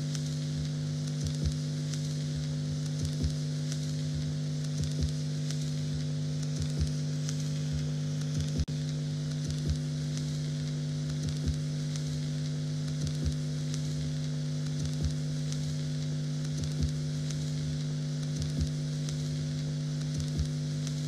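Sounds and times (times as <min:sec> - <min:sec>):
crackling sizzling hiss: 0:00.0 - 0:21.0
low droning hum: 0:00.0 - 0:21.0
soft low pulse: 0:00.0 - 0:21.0.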